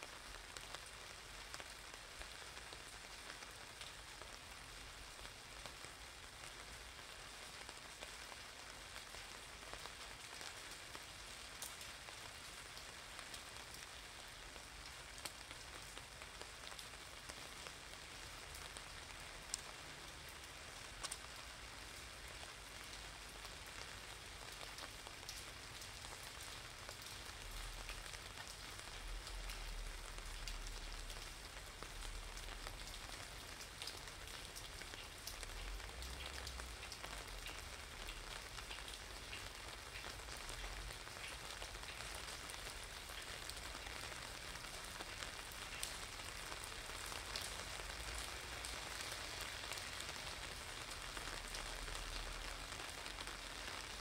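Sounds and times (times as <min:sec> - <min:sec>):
rain on umbrella: 0:00.0 - 0:54.0
rain pattering on pavement: 0:00.0 - 0:54.0.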